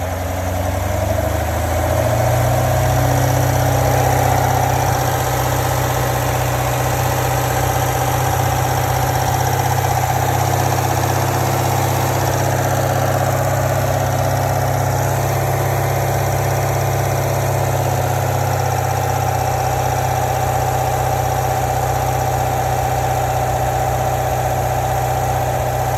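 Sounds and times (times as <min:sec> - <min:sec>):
car engine idling: 0:00.0 - 0:25.9
engine compartment rattle: 0:02.3 - 0:25.9.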